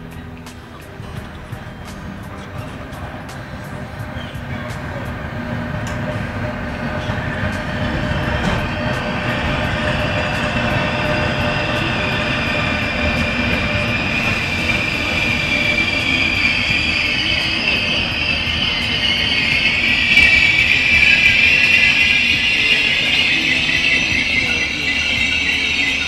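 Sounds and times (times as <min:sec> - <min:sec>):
high wheel squeal: 0:00.0 - 0:26.0
train wheels rumbling on rail: 0:00.0 - 0:26.0.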